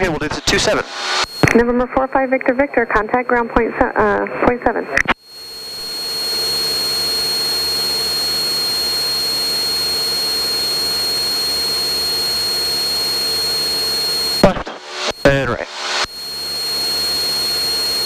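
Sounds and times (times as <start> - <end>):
high-pitched whine: 0.0 - 18.0
propeller engine drone in cabin: 0.0 - 18.0.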